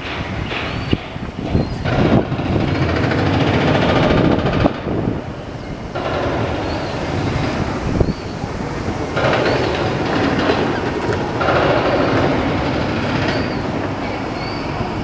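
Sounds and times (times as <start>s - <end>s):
rushing noise: 0.0s - 15.0s
wind buffeting microphone: 0.0s - 15.0s.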